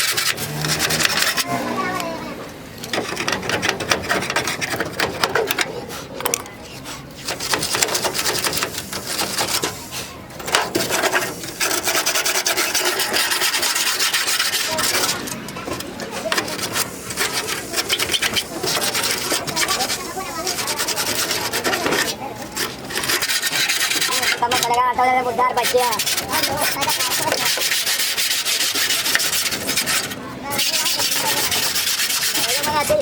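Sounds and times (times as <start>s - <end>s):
file rasping on sheet metal: 0.0s - 33.0s.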